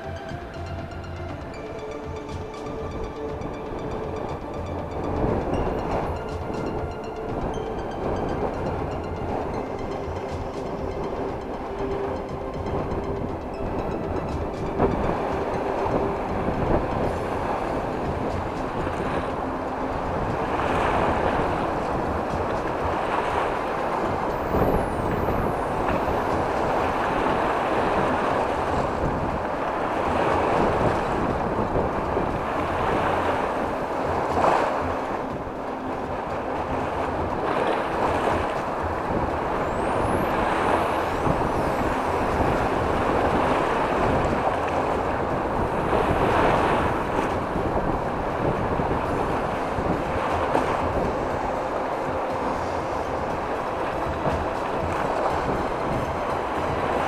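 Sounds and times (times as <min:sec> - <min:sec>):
waves breaking on shore: 0:00.0 - 0:57.0
wind buffeting microphone: 0:00.0 - 0:57.0.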